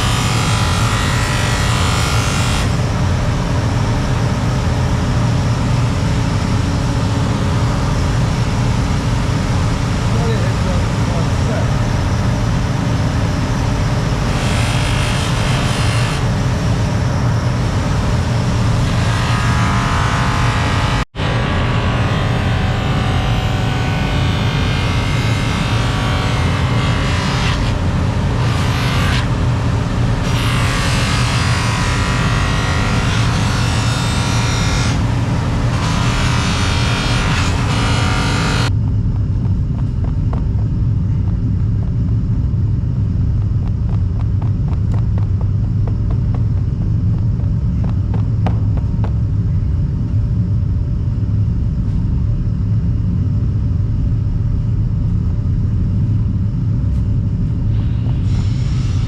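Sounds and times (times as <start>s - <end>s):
low mechanical rumble: 0.0s - 59.0s.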